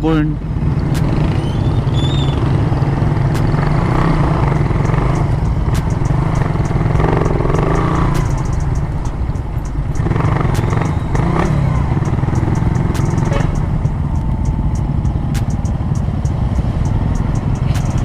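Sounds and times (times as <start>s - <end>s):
motorcycle engine running: 0.0s - 18.0s
sharp clicks: 0.8s - 1.3s, 3.3s - 18.0s.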